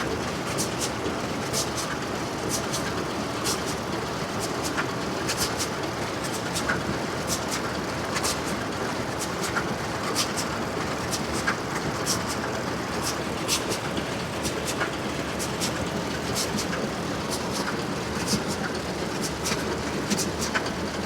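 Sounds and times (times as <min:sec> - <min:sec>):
tractor engine running: 0:00.1 - 0:21.0.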